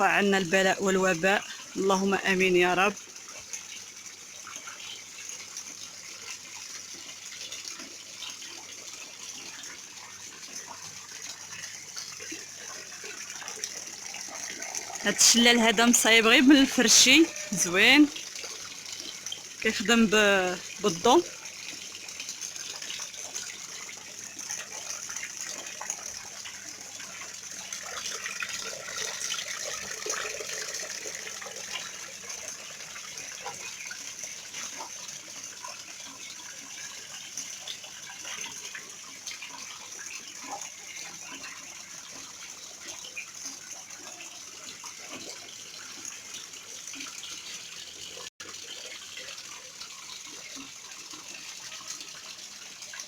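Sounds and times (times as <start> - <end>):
water splashing in small waterfall: 0.0 - 53.0.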